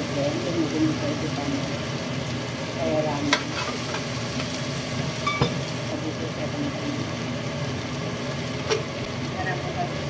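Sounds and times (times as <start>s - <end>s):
vegetables frying in a pan: 0.0s - 10.0s.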